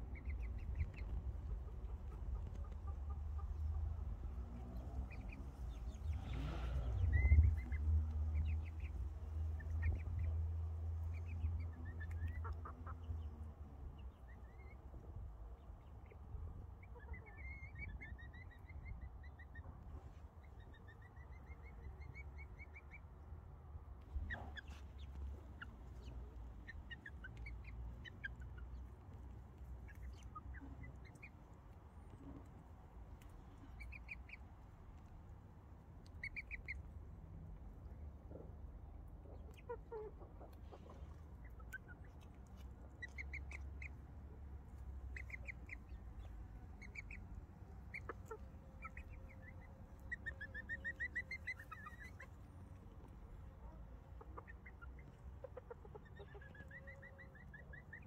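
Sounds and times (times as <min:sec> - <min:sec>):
chickens clucking and chirping: 0:00.0 - 0:58.0.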